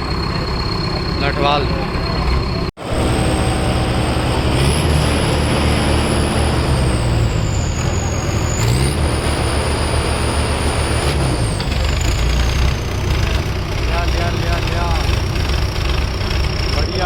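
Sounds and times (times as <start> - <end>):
tractor diesel engines under load: 0.0 - 17.0.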